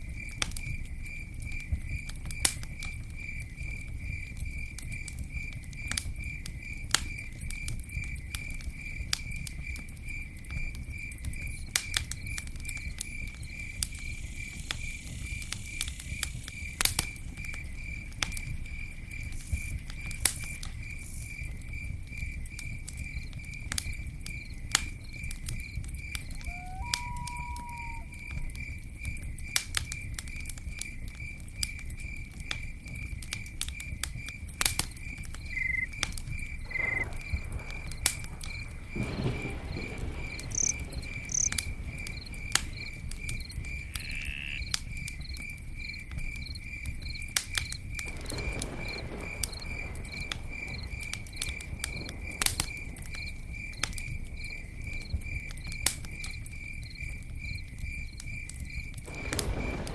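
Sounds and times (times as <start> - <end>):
campfire crackling and popping: 0.0 - 59.9
insect chirping: 0.0 - 59.9.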